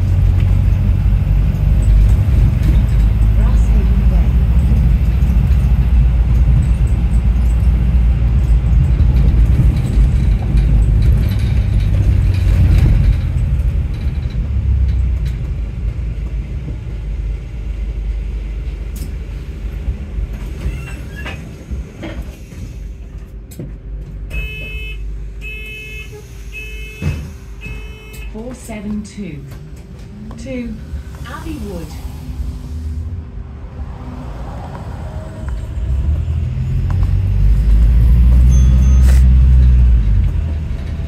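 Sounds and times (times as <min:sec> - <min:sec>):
bus driving and road rumble: 0:00.0 - 0:41.0.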